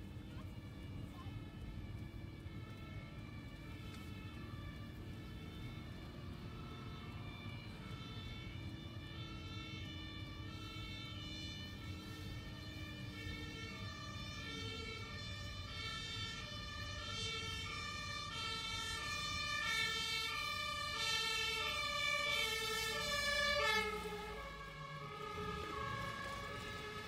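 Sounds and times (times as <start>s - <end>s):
car engine and road rumble: 0.0s - 27.0s
two-tone fire engine siren: 0.0s - 27.0s.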